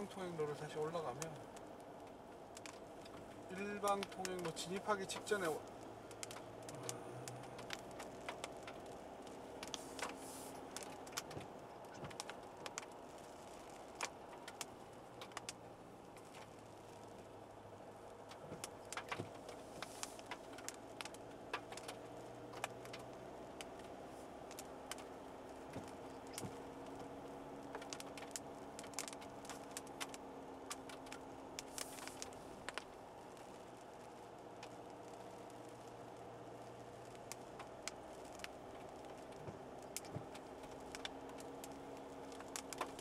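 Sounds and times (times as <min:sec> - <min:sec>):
car engine and road hum: 0:00.0 - 0:43.0
raindrops ticking on car roof: 0:00.0 - 0:43.0.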